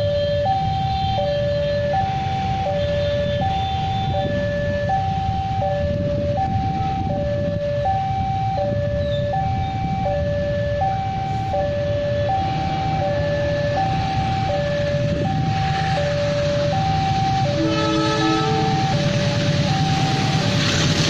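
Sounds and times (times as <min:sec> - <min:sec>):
two-tone crossing alarm: 0:00.0 - 0:21.0.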